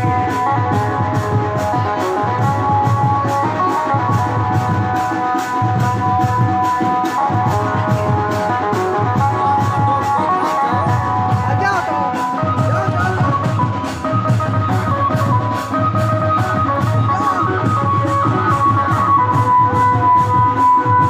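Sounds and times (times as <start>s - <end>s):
electronic keyboard melody: 0.0s - 21.0s
quick steady drum beat: 0.0s - 21.0s.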